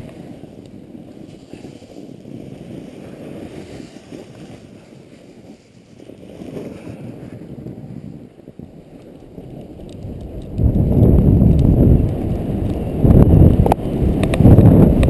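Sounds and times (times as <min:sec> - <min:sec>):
snowboard scraping over snow: 0:00.0 - 0:15.0
wind buffeting microphone: 0:00.0 - 0:15.0.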